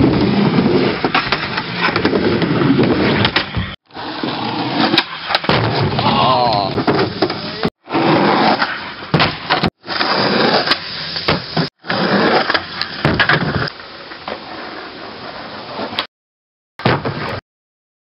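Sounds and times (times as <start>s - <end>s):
skateboard wheels rolling on wood: 0.0s - 16.1s.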